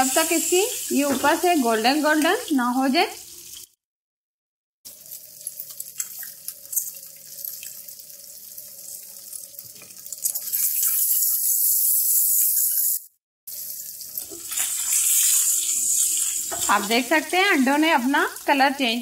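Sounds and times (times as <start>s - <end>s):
hot oil sizzling in a pan: 0.0s - 3.8s, 4.9s - 19.0s.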